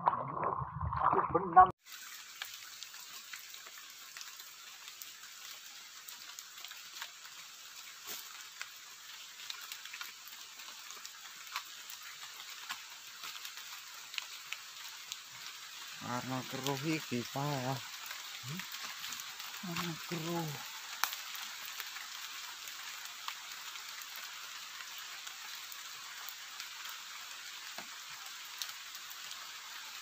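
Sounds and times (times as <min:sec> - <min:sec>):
light rain on river and plants: 0:01.8 - 0:30.0.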